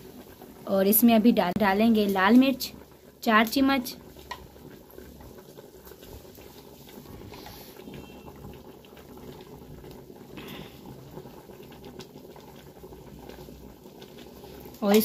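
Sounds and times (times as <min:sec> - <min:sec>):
meat boiling in a pot: 0:00.0 - 0:15.0.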